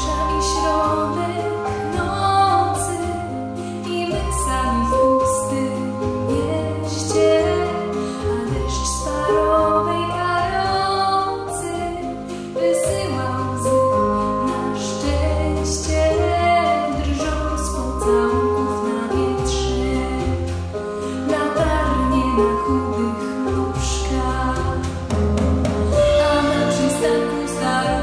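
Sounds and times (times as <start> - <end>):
woman singing into a microphone: 0.0 - 25.0, 25.8 - 28.0
held bass notes: 0.0 - 28.0
instrumental accompaniment: 0.0 - 28.0.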